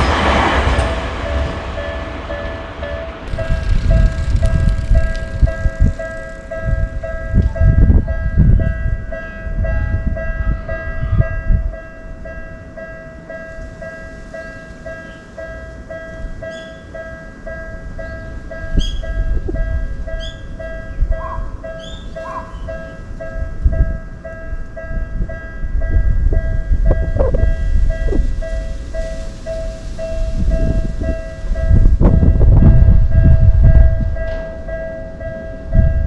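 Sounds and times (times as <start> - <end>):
railroad crossing bell ringing: 0.0 - 36.0
train rumbling past: 0.0 - 36.0.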